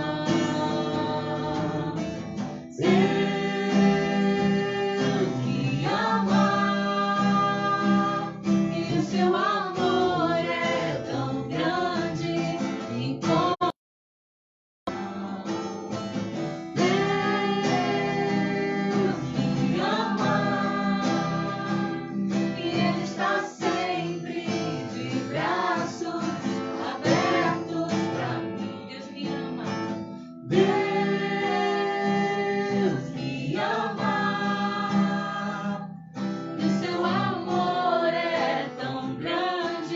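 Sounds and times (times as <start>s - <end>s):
strummed acoustic guitar: 0.0s - 13.6s, 14.9s - 39.9s
person singing worship song: 0.0s - 13.8s, 16.7s - 29.8s, 30.4s - 35.9s, 36.6s - 39.9s.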